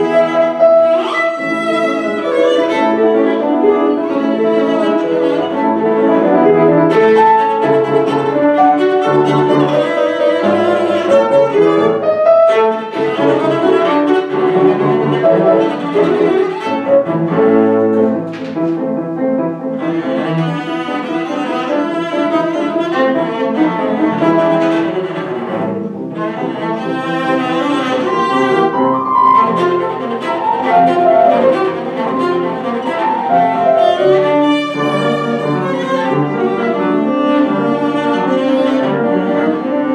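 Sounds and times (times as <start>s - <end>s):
bowed string instrument melody: 0.0s - 39.9s
piano accompaniment: 0.0s - 39.9s.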